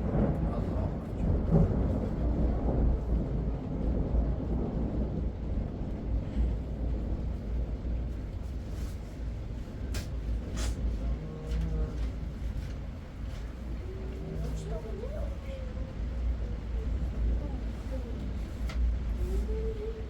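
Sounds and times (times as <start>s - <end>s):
strong wind gusting: 0.0s - 11.2s, 12.0s - 20.0s.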